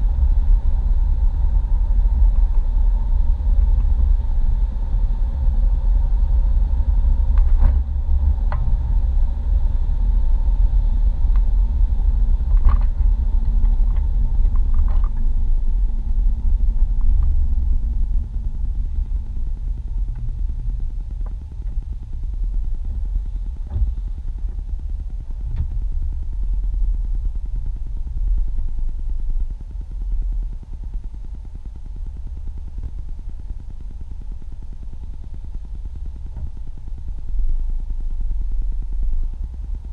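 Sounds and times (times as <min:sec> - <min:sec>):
car driving rumble from inside: 0:00.0 - 0:39.9.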